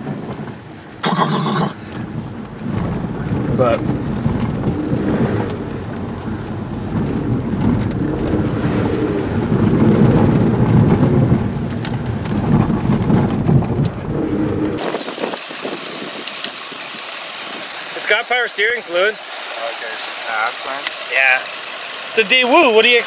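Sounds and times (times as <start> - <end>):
tyres rumbling on gravel: 0.1 - 23.0
car engine idling: 1.8 - 23.0.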